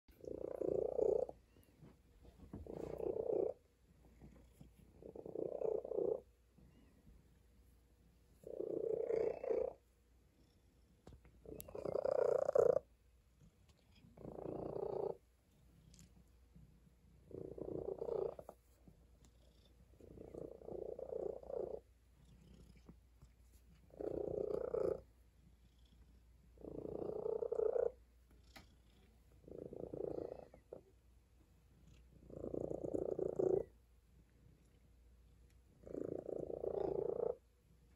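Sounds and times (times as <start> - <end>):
cat purring: 0.1 - 37.9.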